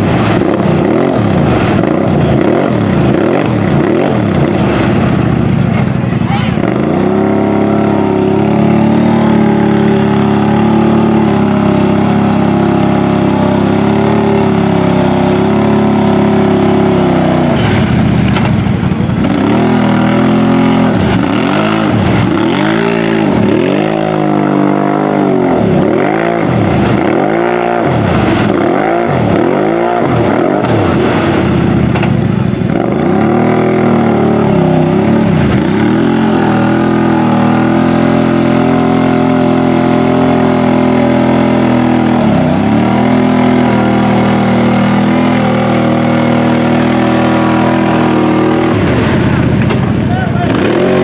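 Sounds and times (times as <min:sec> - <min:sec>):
atv engine revving: 0:00.0 - 0:51.0
tyres churning through mud: 0:00.0 - 0:51.0.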